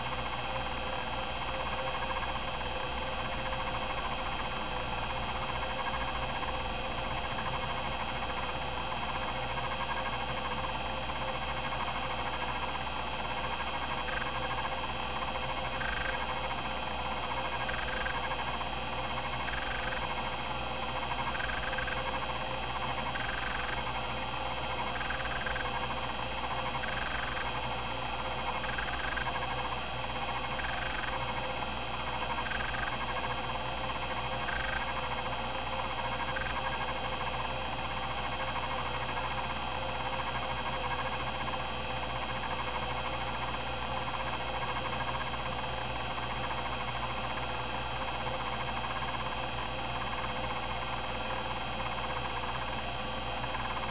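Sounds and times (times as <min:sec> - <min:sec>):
hard drive whirring and seeking: 0:00.0 - 0:53.9.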